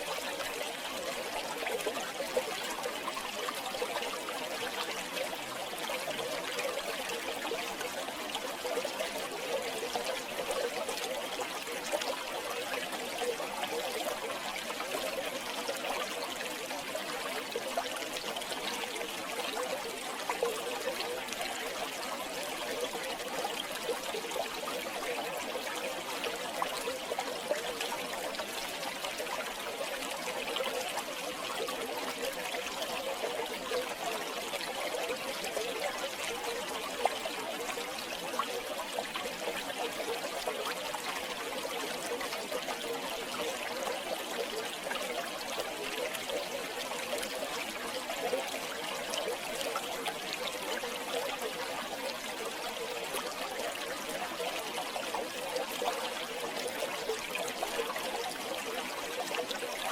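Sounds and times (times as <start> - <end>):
river water flowing: 0.0 - 59.9
small splashes and bubbling: 0.0 - 59.9.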